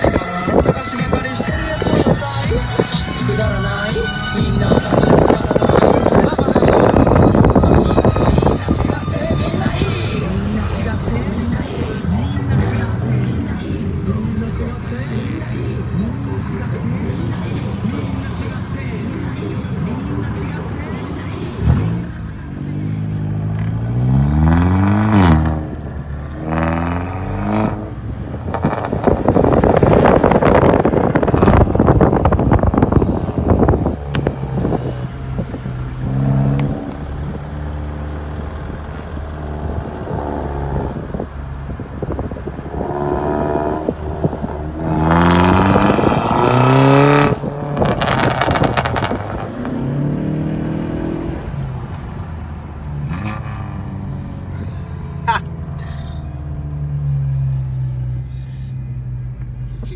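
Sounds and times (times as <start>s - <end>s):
car exhaust accelerating: 0.0s - 59.9s.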